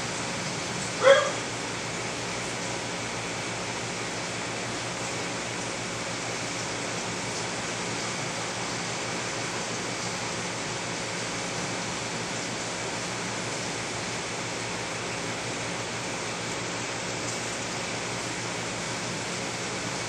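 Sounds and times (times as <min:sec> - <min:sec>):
aquarium water rushing: 0:00.0 - 0:20.0.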